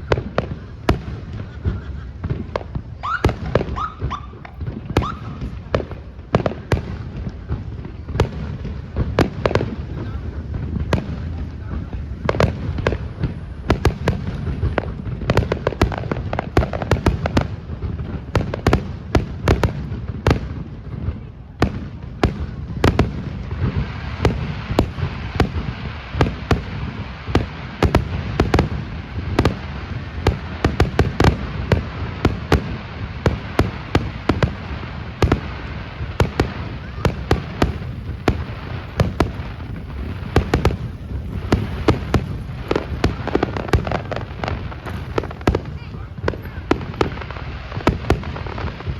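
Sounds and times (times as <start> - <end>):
fireworks bangs and booms: 0.0 - 48.9
fireworks crackling hiss: 0.0 - 48.9.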